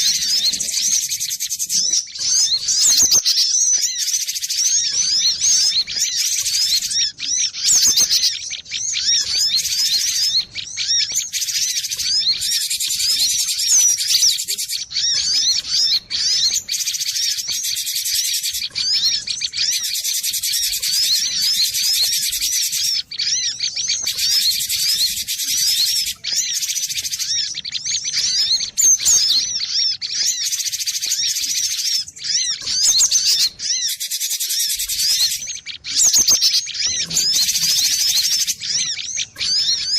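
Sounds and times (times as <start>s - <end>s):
bird high quick chirping: 0.0s - 39.9s.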